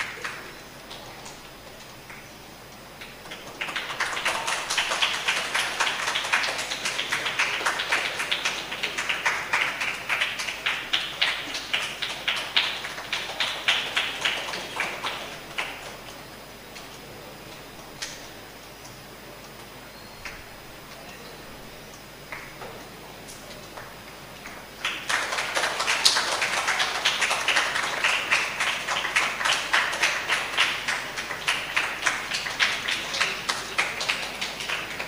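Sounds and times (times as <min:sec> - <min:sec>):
small group clapping: 0:00.0 - 0:02.2, 0:03.0 - 0:16.2, 0:22.3 - 0:35.0.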